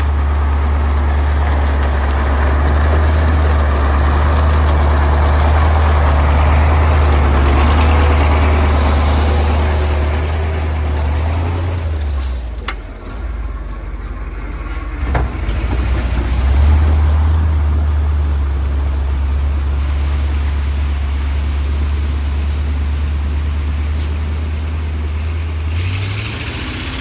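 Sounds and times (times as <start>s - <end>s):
truck diesel engine droning: 0.0s - 27.0s.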